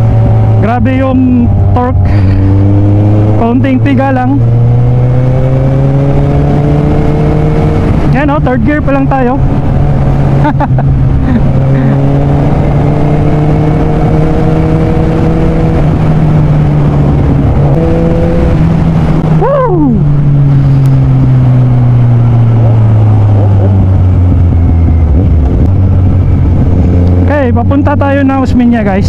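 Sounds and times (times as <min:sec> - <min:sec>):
wind noise: 0:00.0 - 0:29.0.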